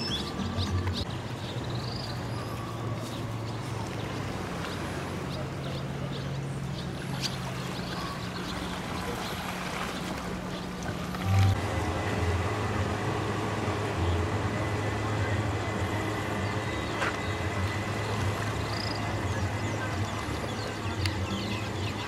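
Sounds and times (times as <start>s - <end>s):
birds chirping: 0.0s - 22.0s
boat motor humming: 0.0s - 22.0s
faint voices: 0.0s - 22.0s.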